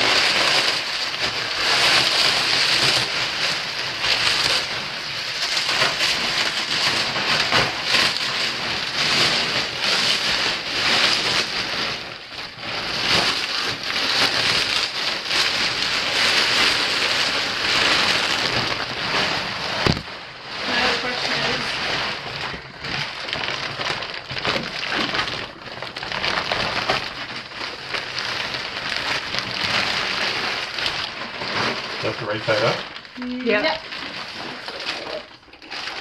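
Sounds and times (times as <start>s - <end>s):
plastic wrapping crinkling: 0.0s - 36.0s.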